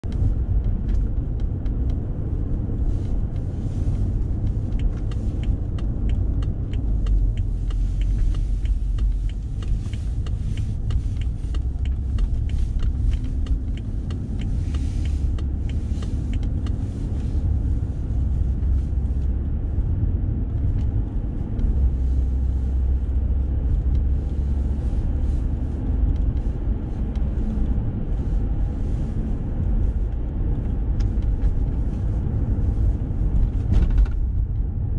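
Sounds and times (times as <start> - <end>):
car tyres and engine rumble: 0.0 - 34.9
light ticks and clicks: 0.1 - 34.8.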